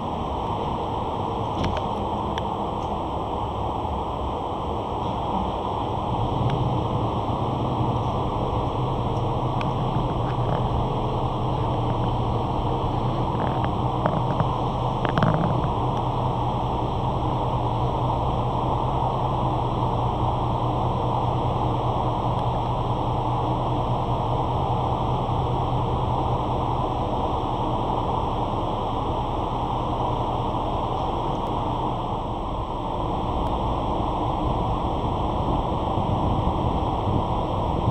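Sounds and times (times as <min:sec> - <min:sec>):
low rumble and hum: 0:00.0 - 0:37.9.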